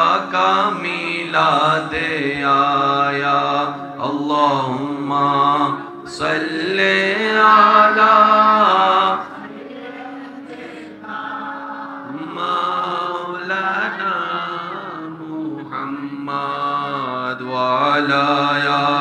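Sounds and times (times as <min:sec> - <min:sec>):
man chanting devotional recitation: 0:00.0 - 0:09.4, 0:12.0 - 0:19.0.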